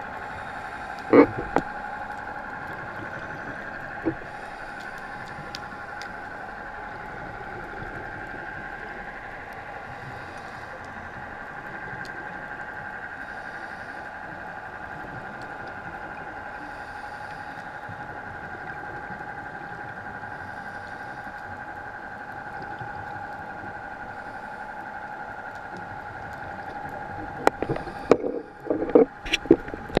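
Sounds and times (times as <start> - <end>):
underwater motor hum: 0.0 - 30.0.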